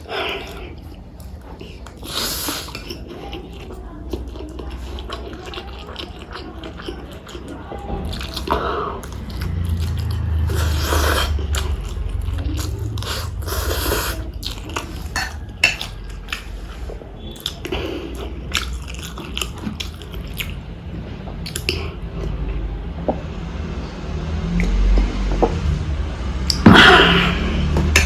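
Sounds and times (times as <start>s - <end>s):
person chewing and smacking: 0.0s - 22.4s, 24.6s - 24.8s.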